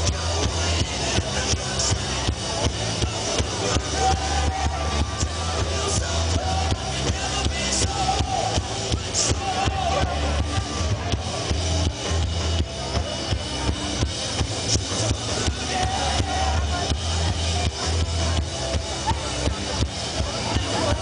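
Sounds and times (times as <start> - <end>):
bass guitar: 0.0 - 21.0
drum kit: 0.0 - 21.0
electric guitars: 0.0 - 21.0.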